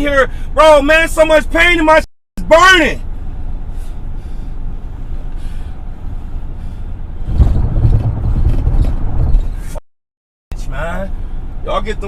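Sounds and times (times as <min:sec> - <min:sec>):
car road and engine rumble: 0:00.0 - 0:09.8, 0:10.5 - 0:12.0.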